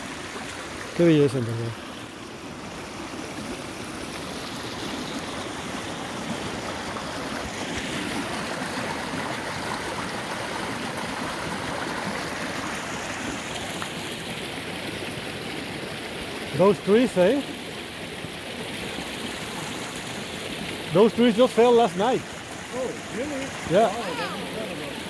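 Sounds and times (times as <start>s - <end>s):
stream water flowing: 0.0s - 25.0s.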